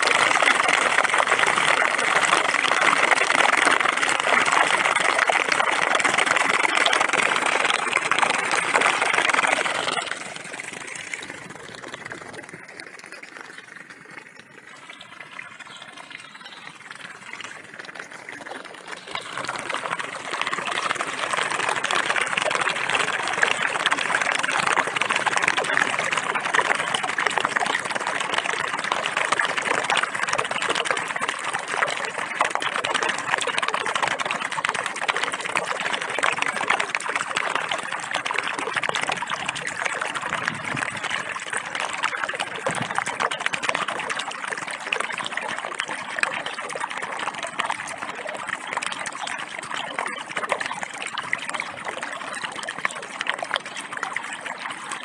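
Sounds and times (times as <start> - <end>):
water rushing down a drain: 0.0 - 55.0.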